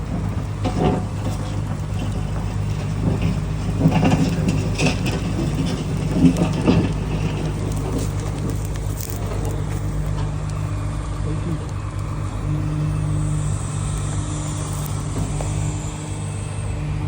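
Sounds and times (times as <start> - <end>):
bucket crunching dirt and rock: 0.0 - 16.2
excavator diesel engine: 0.0 - 17.0.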